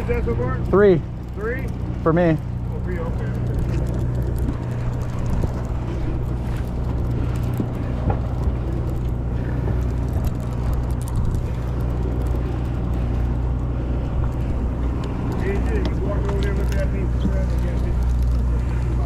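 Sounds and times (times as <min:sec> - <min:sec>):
boat engine humming: 0:00.0 - 0:19.0
sea noise: 0:00.0 - 0:19.0
wind noise: 0:03.3 - 0:18.8.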